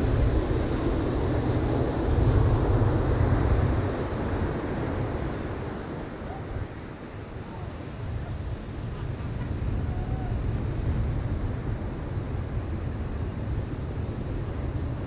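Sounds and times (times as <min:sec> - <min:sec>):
ocean waves crashing on beach: 0:00.0 - 0:15.0.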